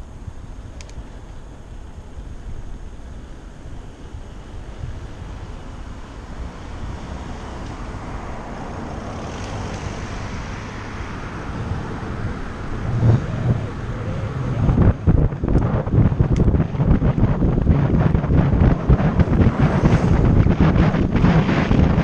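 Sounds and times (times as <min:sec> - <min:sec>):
car passing: 0:03.3 - 0:22.0
wind buffeting microphone: 0:03.5 - 0:22.0.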